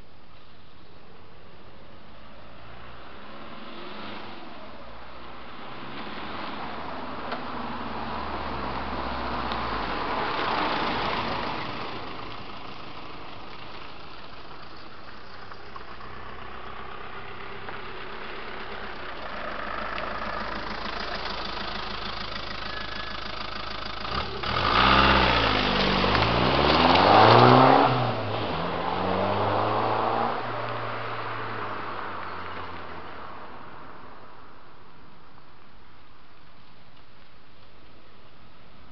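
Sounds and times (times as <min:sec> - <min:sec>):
diesel engine idling and revving: 0:02.5 - 0:34.5.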